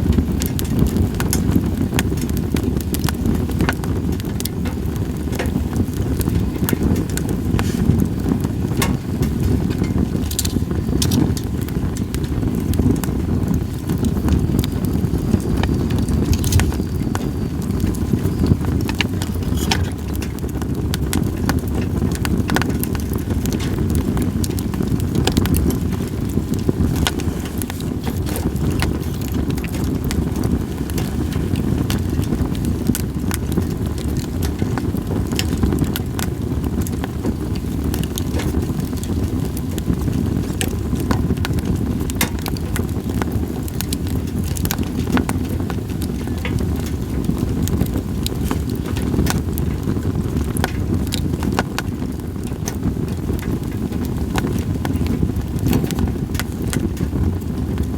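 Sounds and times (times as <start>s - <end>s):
logs crackling and popping: 0.0s - 57.9s
low rumble of campfire: 0.0s - 57.9s.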